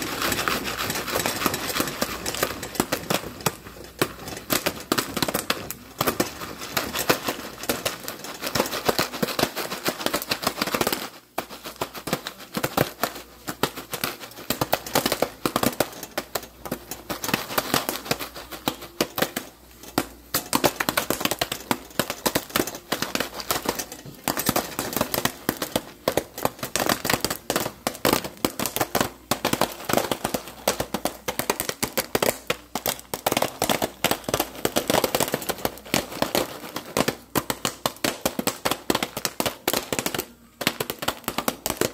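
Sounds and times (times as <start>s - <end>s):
popcorn popping: 0.0s - 41.9s.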